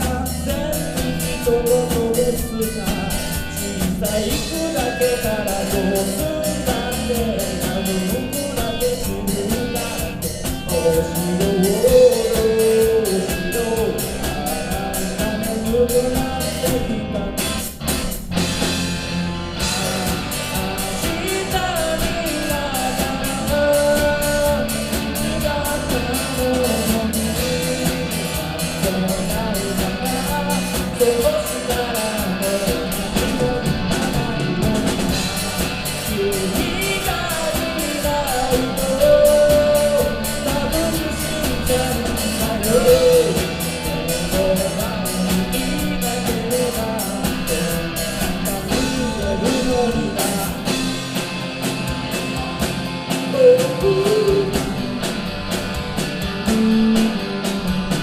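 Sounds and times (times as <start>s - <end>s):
person singing: 0.0s - 17.8s, 19.6s - 55.1s, 56.1s - 58.0s
bass guitar: 0.0s - 58.0s
drum kit: 0.0s - 58.0s
electric guitar: 0.0s - 58.0s
keyboard: 0.0s - 58.0s
live rock band playing: 0.0s - 58.0s.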